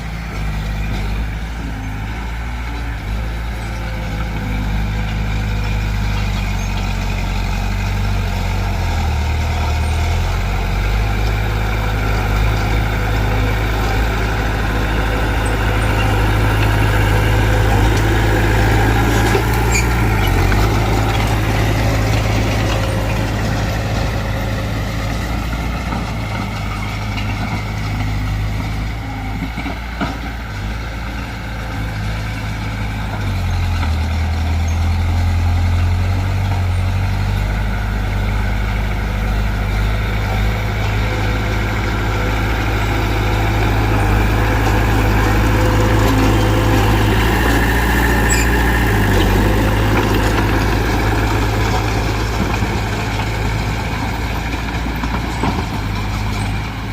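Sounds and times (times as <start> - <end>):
heavy diesel engines droning: 0.0 - 56.9.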